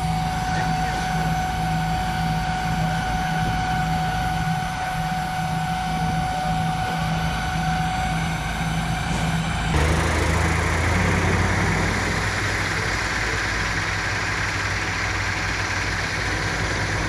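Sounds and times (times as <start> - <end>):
helicopter rotor beat: 0.0 - 17.0
helicopter turbine whine: 0.0 - 17.0.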